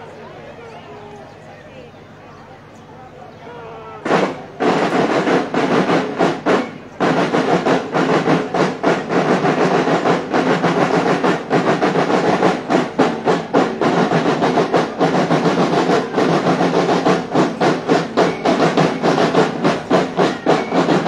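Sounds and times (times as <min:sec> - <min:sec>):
marching band drums cadence: 0:02.8 - 0:21.0.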